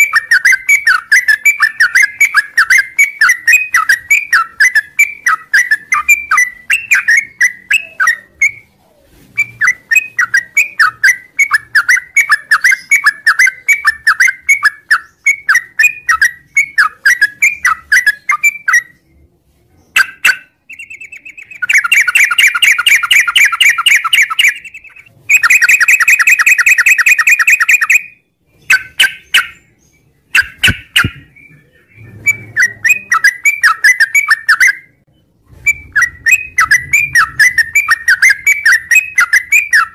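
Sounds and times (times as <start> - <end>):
bulbul chirping song: 0.0 - 8.7, 9.4 - 19.2, 19.9 - 39.9.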